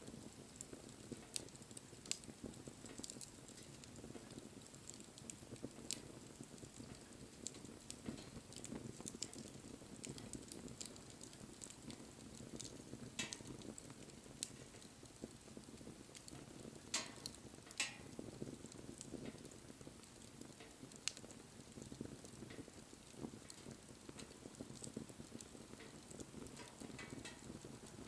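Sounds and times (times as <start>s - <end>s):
bonfire flame rushing: 0.0s - 28.0s
fire crackling and popping: 0.0s - 28.0s.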